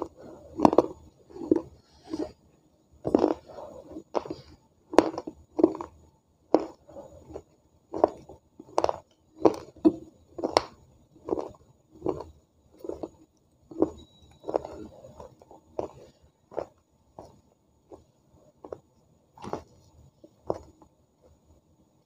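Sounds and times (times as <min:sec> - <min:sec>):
person chewing food: 0:00.0 - 0:21.4.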